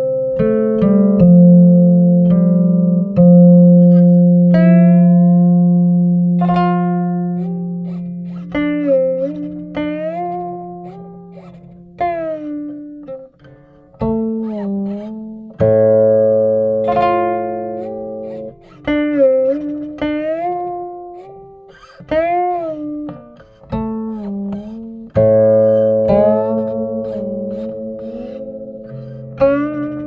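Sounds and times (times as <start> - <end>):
plucked zither notes: 0.0 - 30.0.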